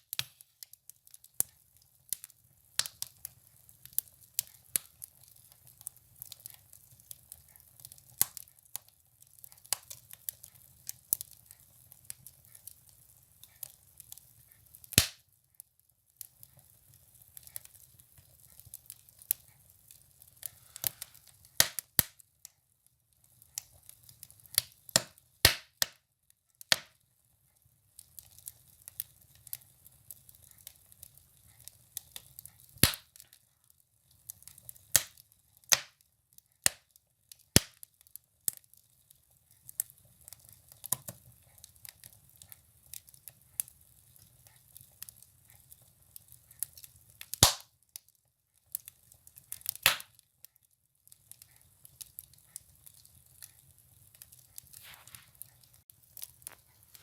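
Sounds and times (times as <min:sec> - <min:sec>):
firewood crackling in a stove: 0:00.0 - 0:57.0.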